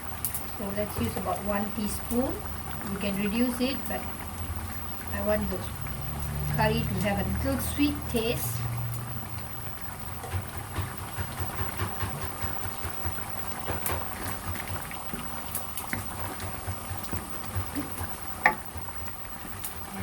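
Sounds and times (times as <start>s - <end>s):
curry bubbling in a pot: 0.0s - 20.0s.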